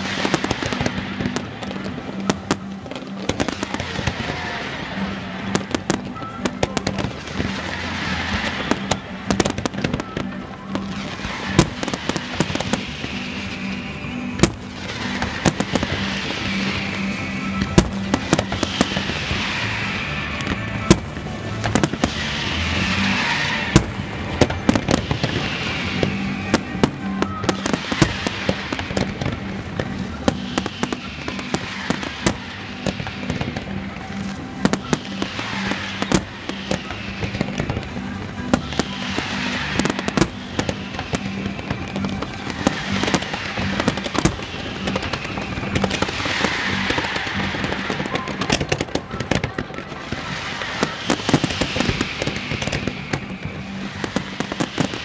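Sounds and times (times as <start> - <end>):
fireworks bursts and bangs: 0.0 - 55.0.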